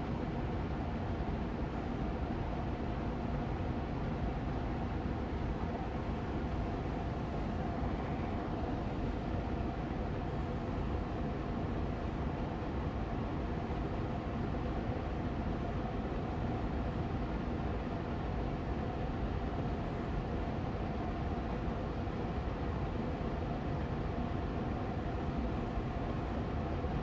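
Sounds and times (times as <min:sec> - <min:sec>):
air purifier fan running: 0:00.0 - 0:27.0.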